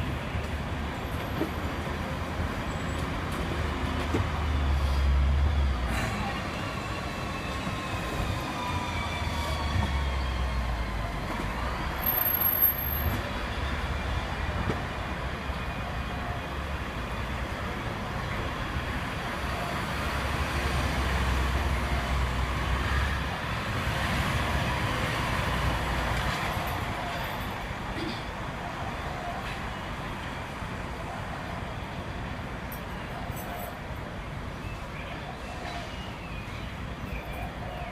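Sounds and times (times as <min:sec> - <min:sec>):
tram rumbling on rails: 0:00.0 - 0:37.9.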